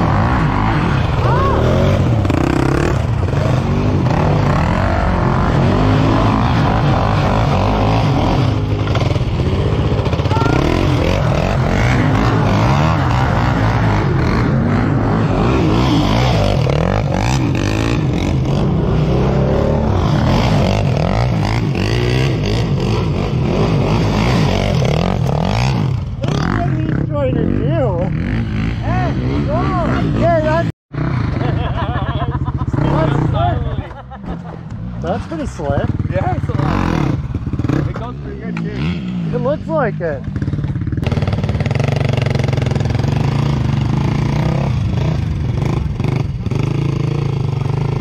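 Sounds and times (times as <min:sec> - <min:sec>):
off-road vehicle engines revving: 0:00.0 - 0:48.0.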